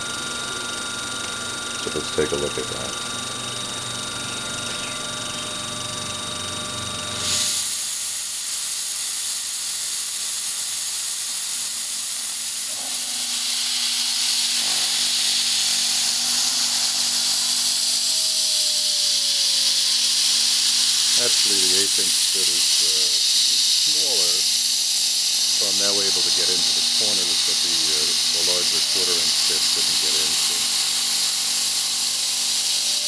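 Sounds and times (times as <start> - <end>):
milling machine spindle whine: 0.0 - 33.0
coolant spray hissing: 1.8 - 3.2, 7.1 - 33.0.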